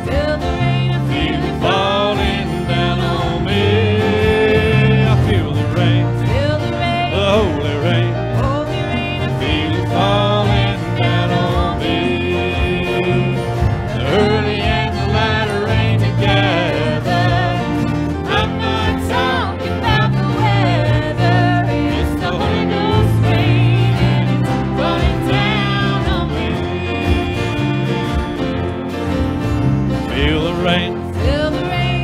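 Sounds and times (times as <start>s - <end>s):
voices singing: 0.0s - 29.4s, 30.0s - 32.0s
acoustic guitars: 0.0s - 32.0s
drums: 0.0s - 32.0s
piano: 0.0s - 32.0s.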